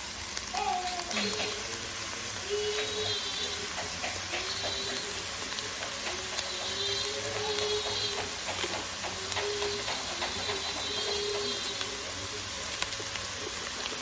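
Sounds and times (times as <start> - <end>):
vegetables sizzling in butter: 0.0 - 14.0
stirring clicks: 0.3 - 14.0.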